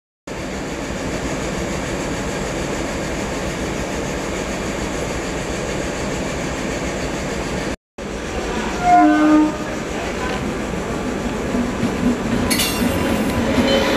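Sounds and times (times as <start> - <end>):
train rumble and hiss: 0.3 - 13.9.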